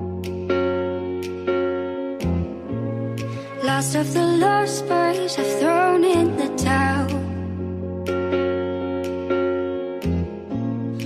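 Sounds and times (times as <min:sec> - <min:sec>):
soft pop song keyboard: 0:00.0 - 0:11.0.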